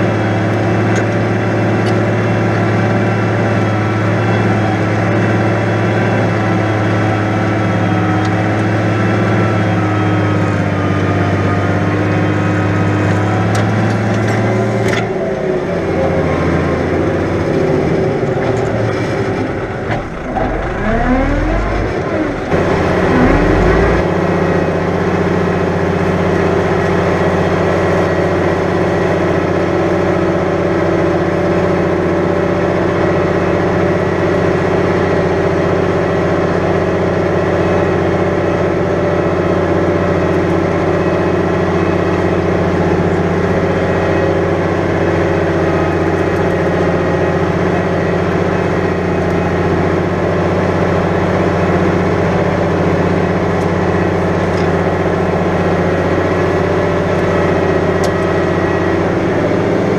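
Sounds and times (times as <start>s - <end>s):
tractor diesel engine working hard: 0.0s - 59.9s.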